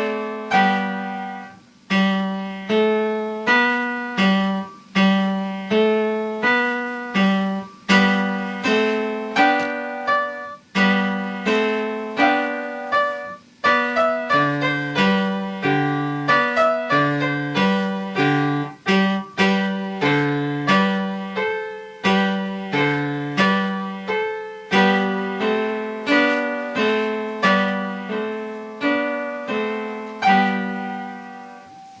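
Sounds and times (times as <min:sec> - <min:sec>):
solo piano melody: 0:00.0 - 0:32.0.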